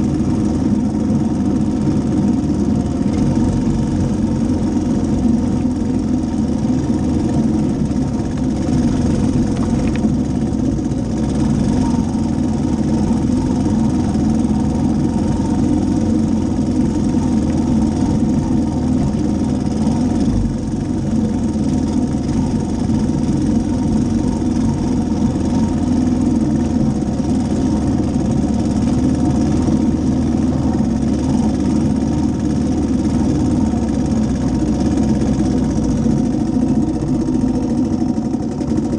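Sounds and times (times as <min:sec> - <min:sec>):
engine running at speed: 0:00.0 - 0:38.9.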